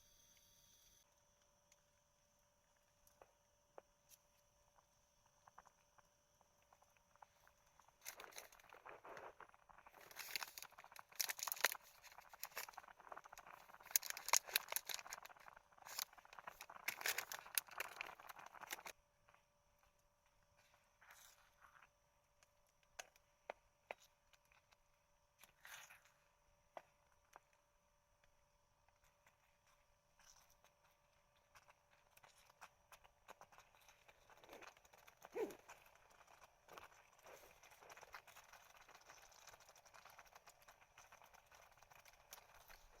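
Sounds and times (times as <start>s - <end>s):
crinkling and rustling: 6.5s - 43.0s.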